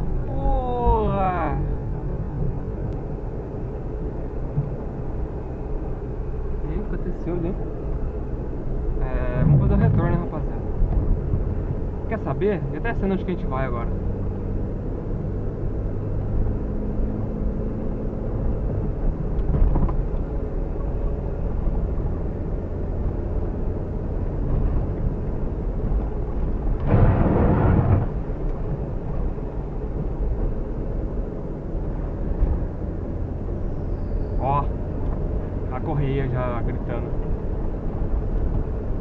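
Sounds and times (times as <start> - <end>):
road noise: 0.0 - 39.0.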